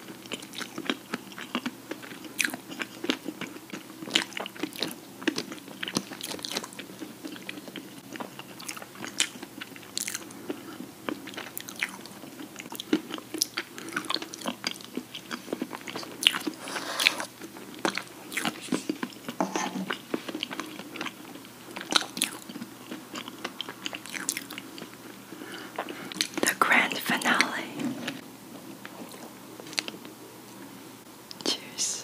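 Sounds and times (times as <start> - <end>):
chewing with crunches: 0.0 - 26.6, 27.2 - 30.1.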